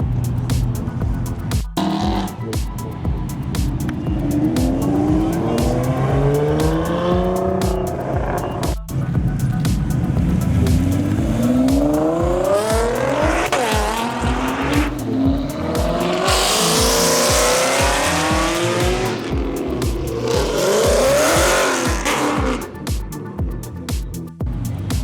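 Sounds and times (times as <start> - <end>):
car engine accelerating: 0.0 - 25.0
music beat: 0.0 - 25.0.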